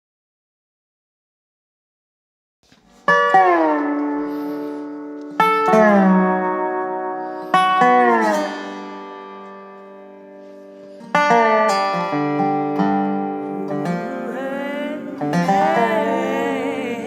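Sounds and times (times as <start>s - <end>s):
guitar playing: 3.1s - 17.0s.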